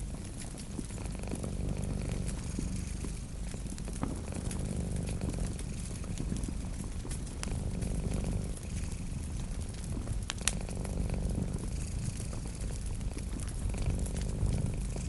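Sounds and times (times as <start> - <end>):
cat purring: 0.0 - 15.0
wood fire crackling and popping: 0.0 - 15.0.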